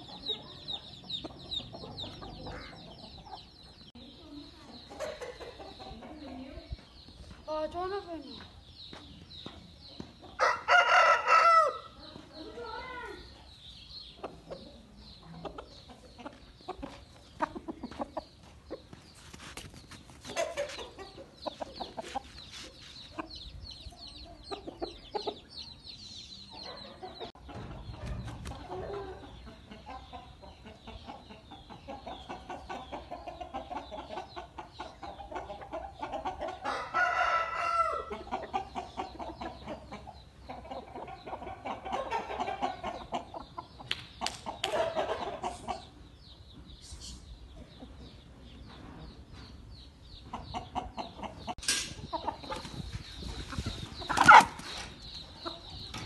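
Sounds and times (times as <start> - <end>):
chickens clucking and calling: 0.0 - 56.0.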